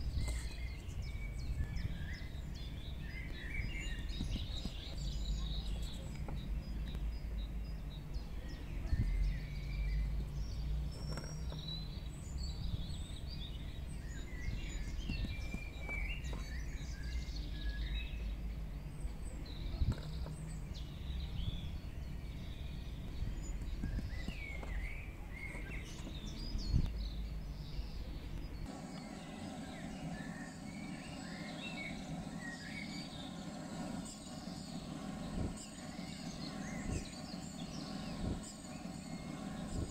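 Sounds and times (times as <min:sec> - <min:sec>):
low outdoor rumble: 0:00.0 - 0:39.9
small birds chirping: 0:00.0 - 0:39.9.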